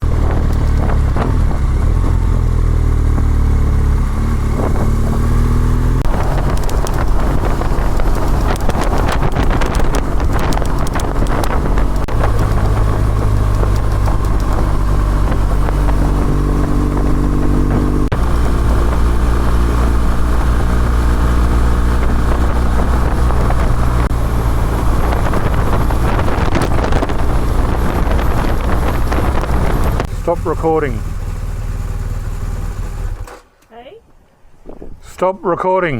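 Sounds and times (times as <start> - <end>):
motorcycle engine running: 0.0 - 33.5.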